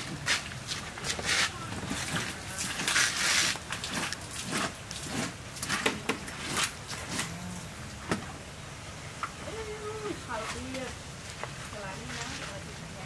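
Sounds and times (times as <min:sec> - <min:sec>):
leaves crackling rustles: 0:00.0 - 0:13.0.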